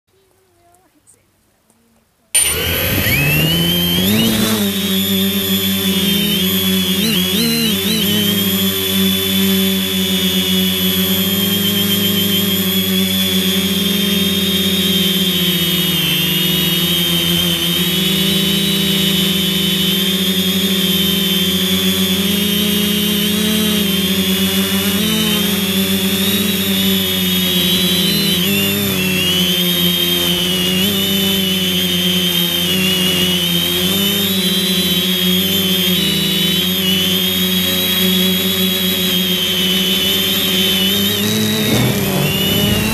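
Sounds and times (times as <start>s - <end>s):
quadcopter motors and propellers whining: 2.4s - 42.9s.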